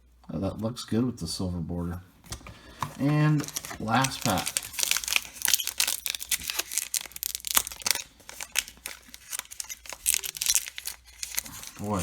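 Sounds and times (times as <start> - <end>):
card pack wrapper crinkling and tearing: 2.3 - 12.0.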